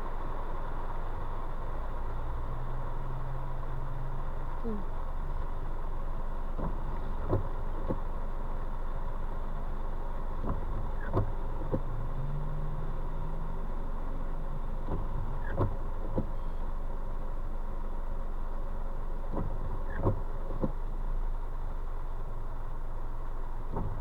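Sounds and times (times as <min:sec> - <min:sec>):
low engine hum: 0:00.0 - 0:24.0
rain on a moving car: 0:00.0 - 0:24.0
road noise inside a car: 0:00.0 - 0:24.0.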